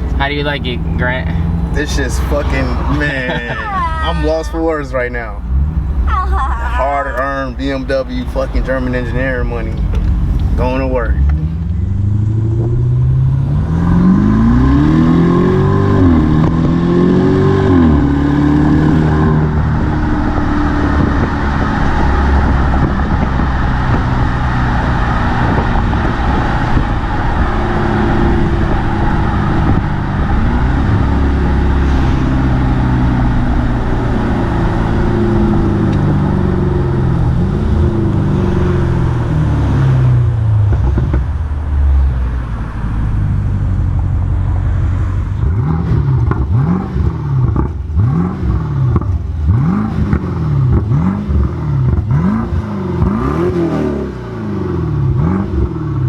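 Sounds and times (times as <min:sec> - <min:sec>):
car engine revving through gears: 0:00.0 - 0:06.3, 0:07.1 - 0:56.0.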